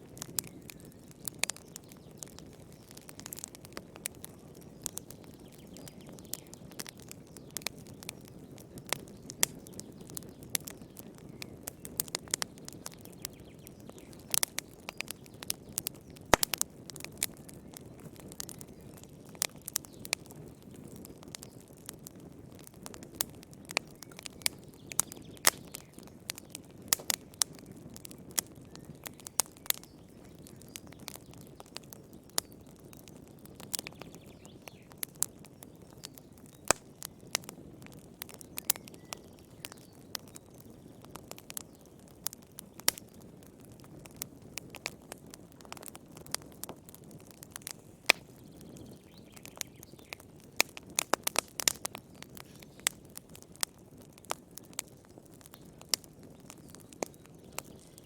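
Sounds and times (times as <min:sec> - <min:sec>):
soft hiss of flames: 0:00.0 - 0:58.0
wood fire crackling and popping: 0:00.0 - 0:58.0.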